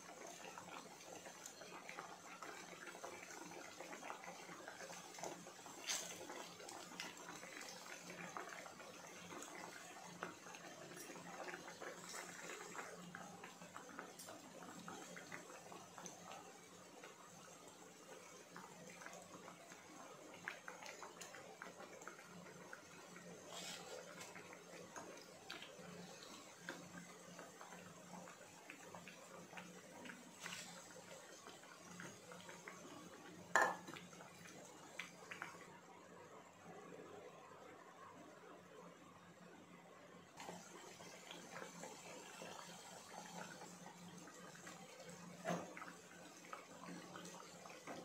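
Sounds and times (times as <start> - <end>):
food deep-frying in hot oil: 0.0 - 36.0, 40.4 - 48.0.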